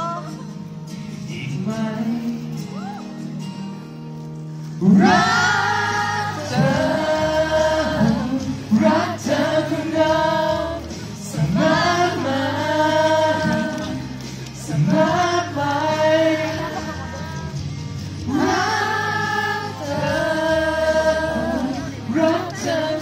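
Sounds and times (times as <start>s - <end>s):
man singing pop song live: 0.0s - 3.3s, 4.7s - 23.0s
backing track: 0.0s - 23.0s.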